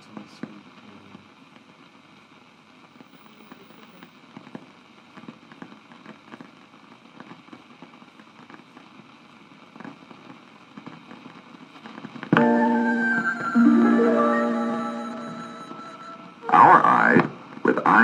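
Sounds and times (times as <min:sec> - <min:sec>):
film soundtrack surface hiss: 0:00.0 - 0:18.0.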